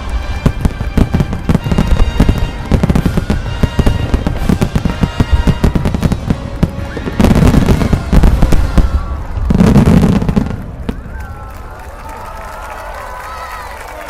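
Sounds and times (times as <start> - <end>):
fireworks explosions: 0.0 - 11.8.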